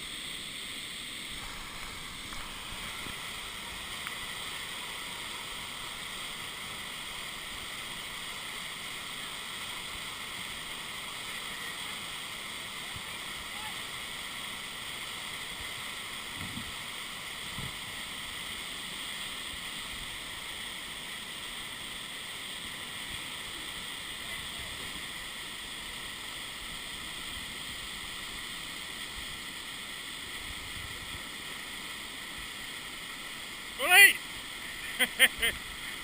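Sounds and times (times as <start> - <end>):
white water rushing: 0.0 - 36.0.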